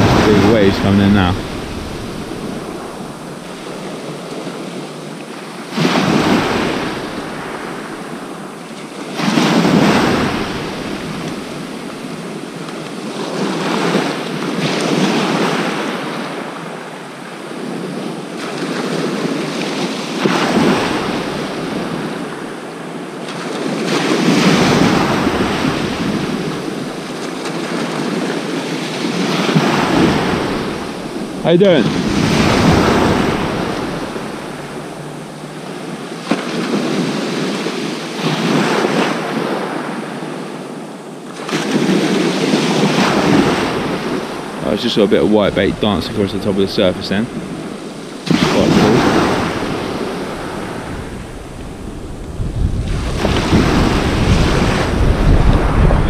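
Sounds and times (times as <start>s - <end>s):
sea waves crashing on beach: 0.0s - 56.0s.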